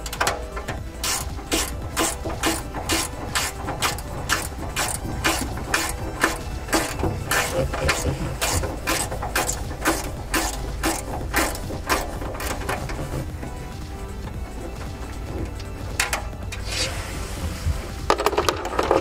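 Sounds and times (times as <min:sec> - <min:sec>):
ratchet wrench clicking: 0:00.0 - 0:16.7.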